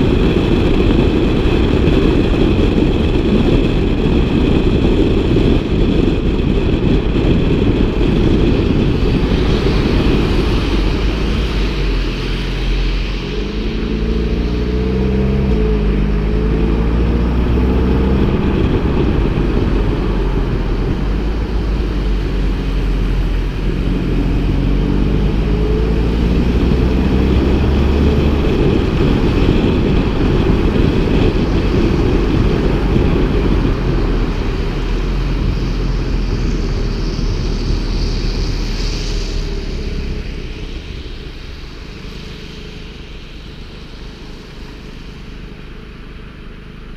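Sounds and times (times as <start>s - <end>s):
car exhaust rumble: 0.0s - 46.9s
engine revving: 0.0s - 46.9s.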